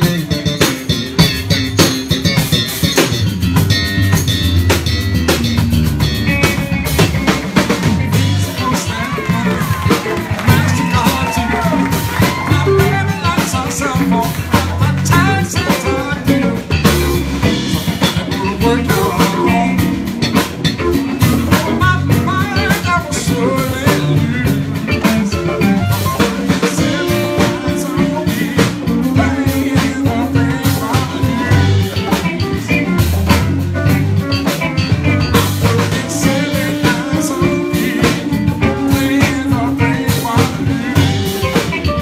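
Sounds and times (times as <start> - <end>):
funk band playing: 0.0 - 42.0
slap bass line: 0.0 - 42.0.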